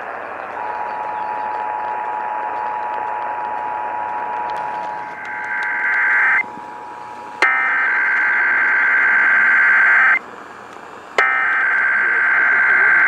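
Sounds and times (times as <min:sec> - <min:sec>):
buzzy digital data bursts: 0:00.0 - 0:13.0
radio hiss: 0:00.0 - 0:13.0.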